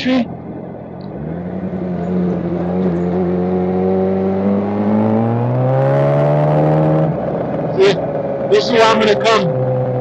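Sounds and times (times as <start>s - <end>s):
motorcycle engine accelerating: 0.2s - 10.0s.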